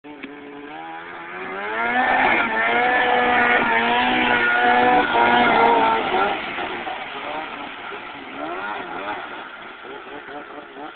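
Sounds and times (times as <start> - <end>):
snowmobile engine revving: 0.3 - 10.9.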